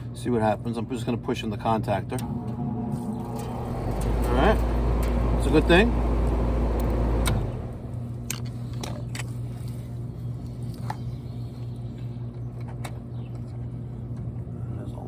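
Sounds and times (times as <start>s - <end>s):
deep machine hum: 1.9s - 14.7s.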